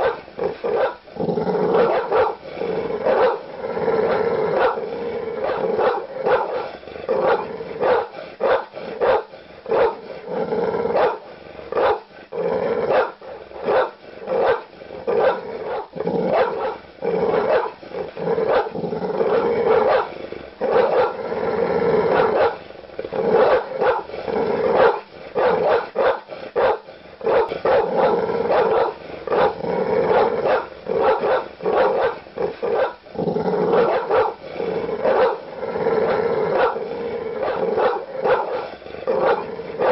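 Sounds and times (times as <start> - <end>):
large dogs barking aggressively: 0.0 - 39.9.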